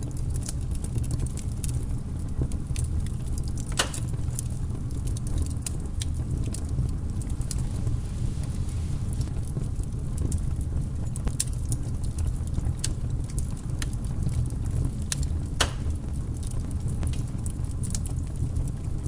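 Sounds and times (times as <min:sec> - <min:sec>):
fire crackles and pops: 0:00.0 - 0:19.0
fire flames rumbling: 0:00.0 - 0:19.0.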